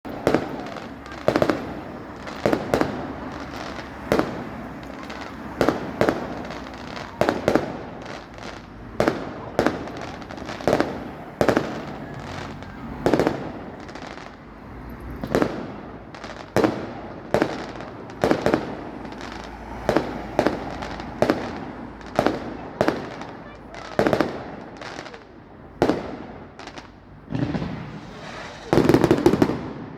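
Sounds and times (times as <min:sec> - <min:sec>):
fireworks bangs: 0:00.0 - 0:29.9
fireworks crackling: 0:00.0 - 0:29.9.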